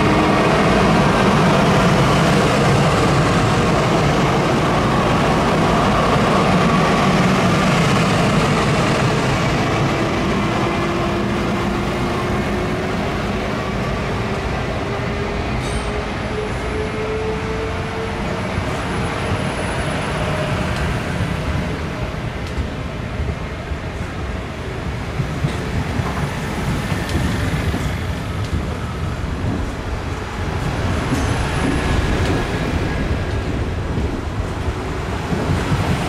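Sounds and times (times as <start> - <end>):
train rumbling on rails: 0.0 - 36.0.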